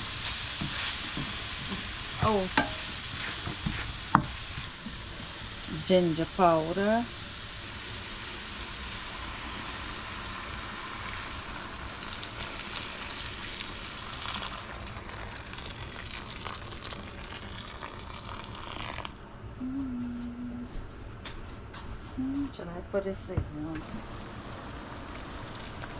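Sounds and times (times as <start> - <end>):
water hissing in hot pan: 0.0 - 19.1, 23.8 - 25.9.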